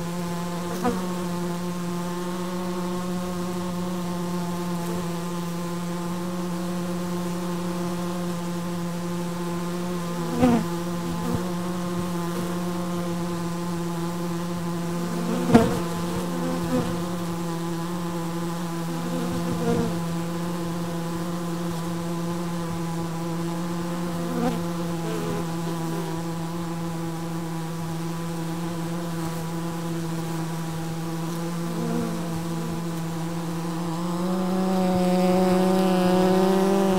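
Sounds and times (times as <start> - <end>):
bee colony humming: 0.0 - 36.9
bees buzzing close past: 0.0 - 36.9.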